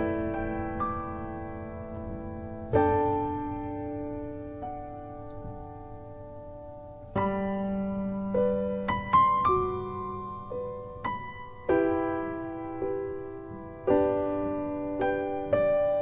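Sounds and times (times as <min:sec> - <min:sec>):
slow gentle piano chords: 0:00.0 - 0:16.0.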